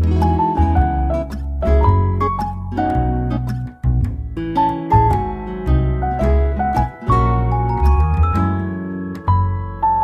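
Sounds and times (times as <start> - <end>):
gentle keyboard melody: 0.0 - 10.0
held bass notes: 0.0 - 10.0.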